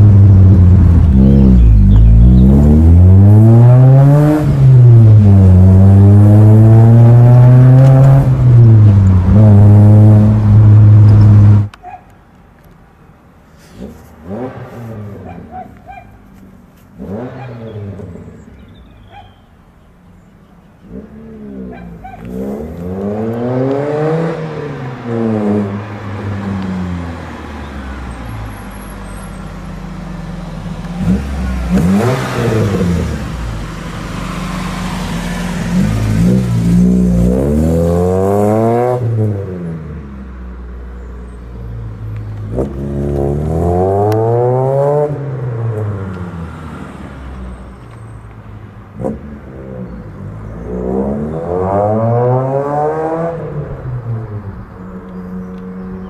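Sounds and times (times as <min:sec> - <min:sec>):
car engine revving: 0:00.0 - 0:11.8, 0:13.7 - 0:15.5, 0:17.0 - 0:18.4, 0:20.8 - 0:40.0, 0:41.9 - 0:48.3, 0:48.9 - 0:56.0.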